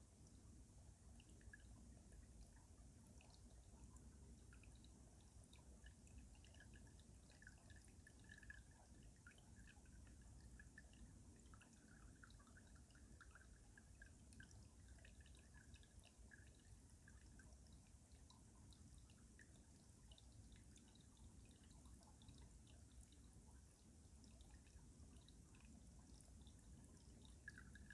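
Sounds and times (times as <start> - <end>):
water dripping and gurgling: 0.0 - 27.9.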